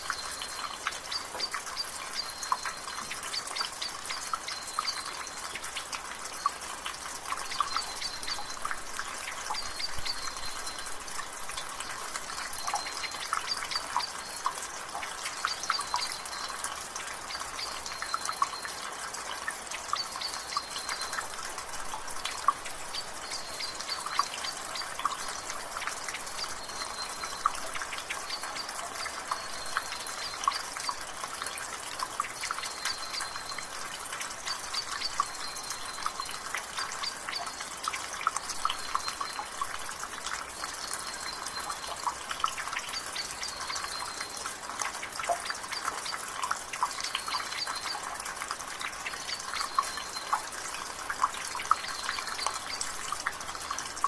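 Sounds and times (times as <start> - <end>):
water dripping from a rain gutter: 0.0 - 54.0.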